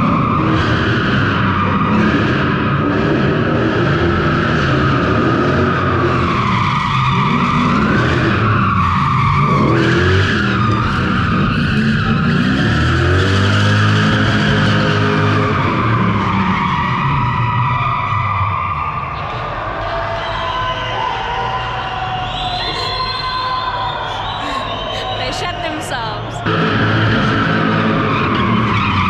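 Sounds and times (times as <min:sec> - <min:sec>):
engine revving hard: 0:00.0 - 0:17.5, 0:18.8 - 0:29.0.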